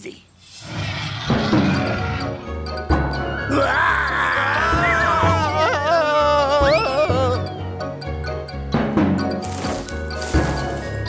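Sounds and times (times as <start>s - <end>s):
cartoon background music: 1.3s - 11.0s.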